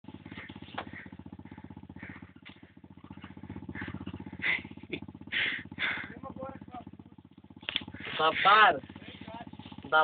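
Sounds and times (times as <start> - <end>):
quad bike engine idling: 0.0 - 10.0.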